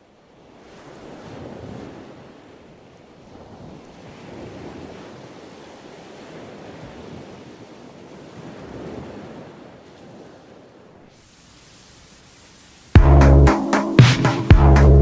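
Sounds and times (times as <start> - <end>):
wind: 0.0 - 13.0
sea waves washing: 0.1 - 14.5.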